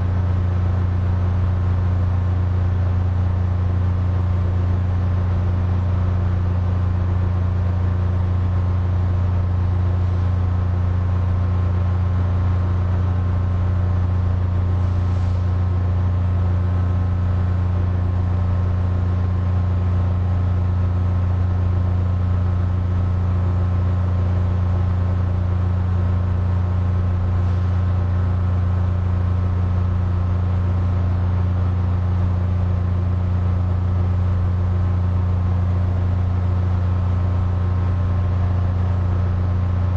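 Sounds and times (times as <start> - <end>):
air conditioner running: 0.0 - 39.9.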